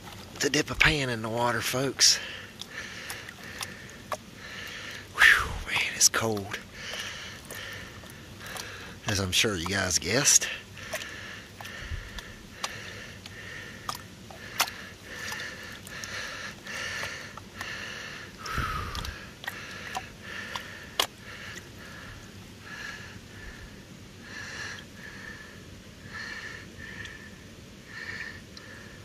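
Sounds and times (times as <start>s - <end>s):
water swishing in a plastic pan: 0.0s - 25.4s.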